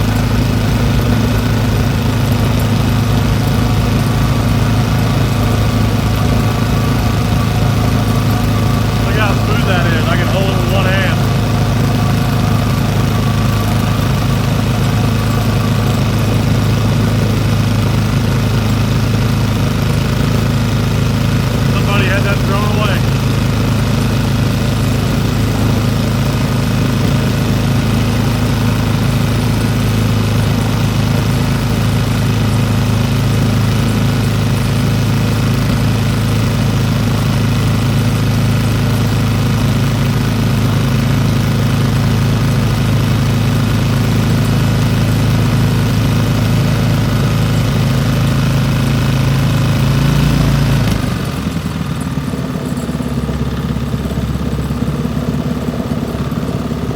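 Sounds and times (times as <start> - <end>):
small engine running fast: 0.0 - 56.9.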